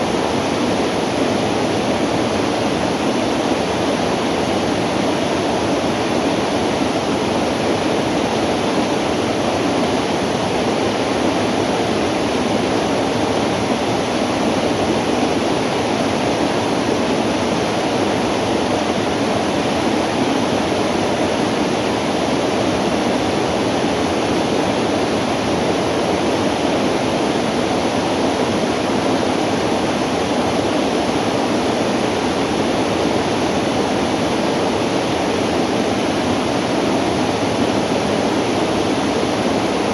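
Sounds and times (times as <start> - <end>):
river water rushing over riffles: 0.0 - 39.9.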